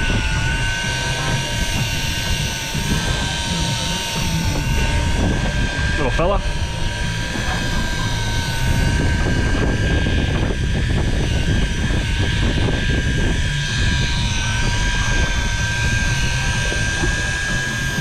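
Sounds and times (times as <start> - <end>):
motor running with whining tones: 0.0 - 18.0.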